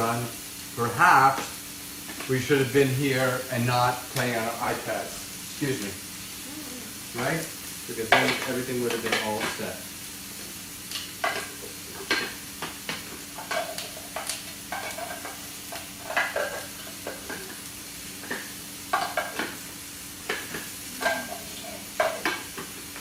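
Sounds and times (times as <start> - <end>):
meatballs sizzling in a frying pan: 0.0 - 23.0.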